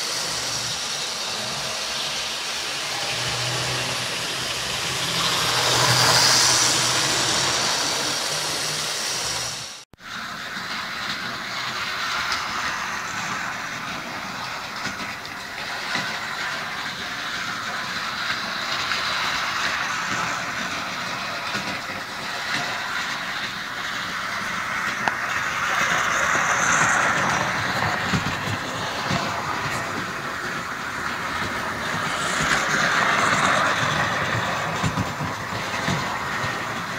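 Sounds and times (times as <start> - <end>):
model train whirring and rattling: 0.0 - 36.9.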